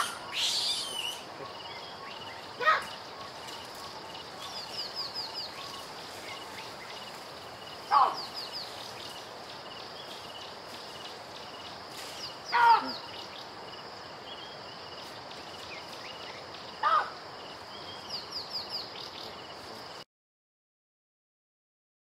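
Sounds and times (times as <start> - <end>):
high insect hum: 0.0 - 20.0.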